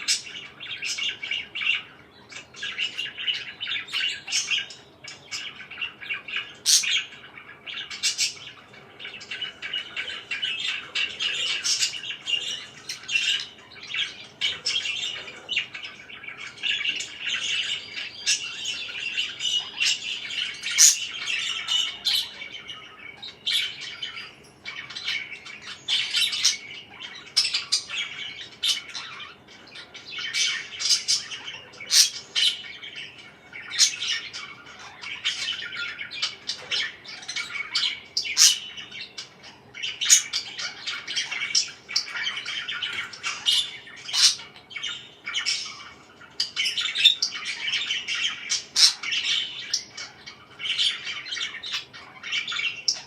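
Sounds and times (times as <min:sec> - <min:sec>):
parakeets chirping and squawking: 0:00.0 - 0:53.0.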